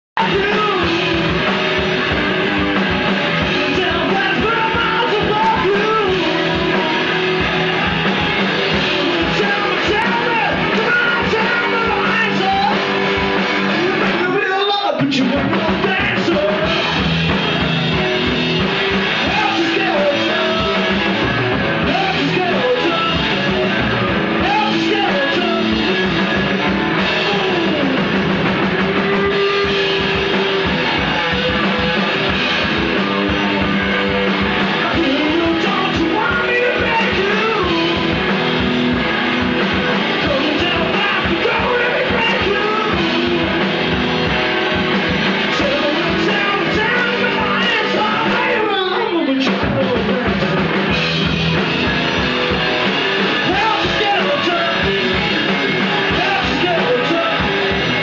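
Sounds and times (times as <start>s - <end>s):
drums: 0.0s - 58.0s
person singing: 0.2s - 17.1s, 19.0s - 26.4s, 27.0s - 44.3s, 45.3s - 50.7s, 52.8s - 58.0s
electric guitar: 0.2s - 58.0s.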